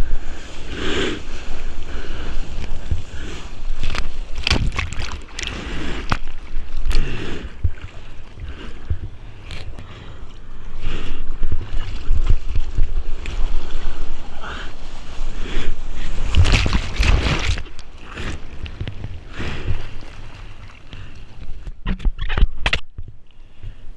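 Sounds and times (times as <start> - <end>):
ocean surf splashing and sloshing: 0.0 - 21.9
steady low rumble: 0.0 - 21.9.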